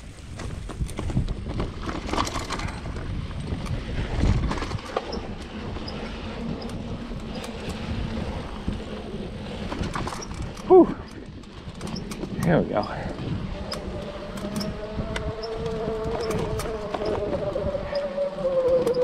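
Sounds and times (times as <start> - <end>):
bike rattling over bumps: 0.0 - 19.0
tyre and wind rumble: 0.0 - 19.0.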